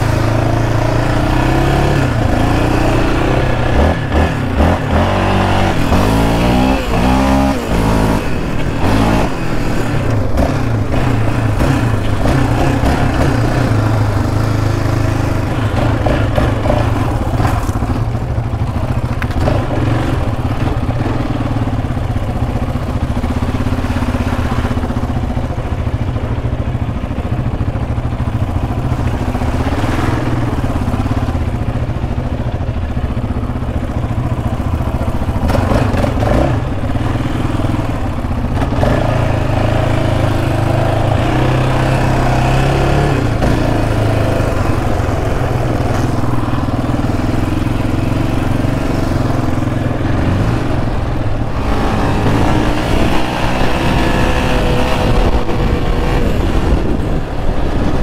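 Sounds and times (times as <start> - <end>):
quad engine revving: 0.0 - 26.3, 27.6 - 58.0.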